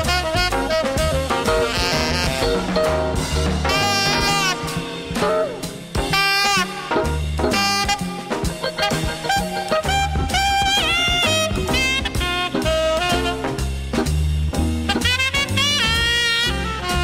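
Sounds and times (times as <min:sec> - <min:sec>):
bass line: 0:00.0 - 0:17.0
drums: 0:00.0 - 0:17.0
swing jazz with horns: 0:00.0 - 0:17.0.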